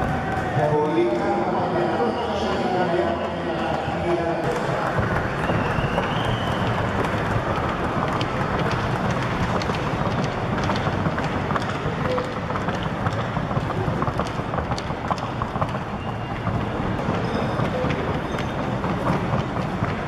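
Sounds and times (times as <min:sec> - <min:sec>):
crowd din in arena: 0:00.0 - 0:20.0.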